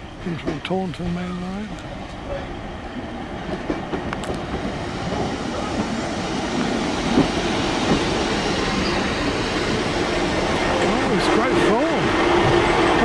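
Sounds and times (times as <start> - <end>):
train engine and wheel noise: 0.0 - 13.0.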